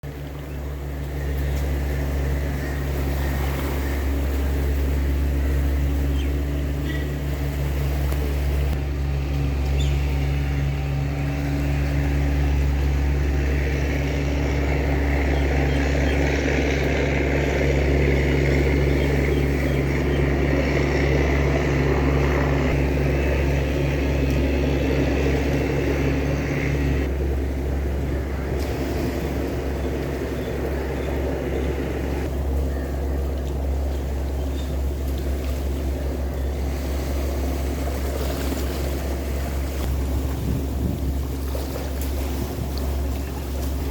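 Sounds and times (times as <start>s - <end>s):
motor engine droning: 0.0s - 43.9s.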